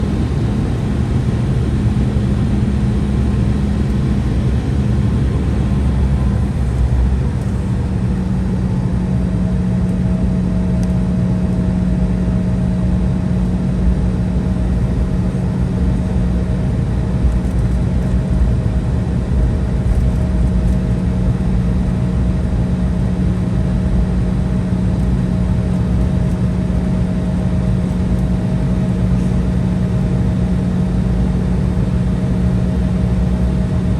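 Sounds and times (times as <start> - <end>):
jet engine cabin rumble: 0.0 - 33.9.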